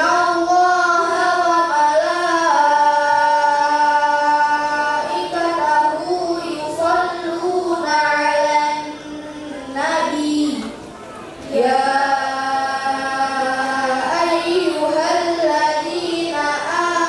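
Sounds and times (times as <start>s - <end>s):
child chanting into a microphone: 0.0s - 17.0s.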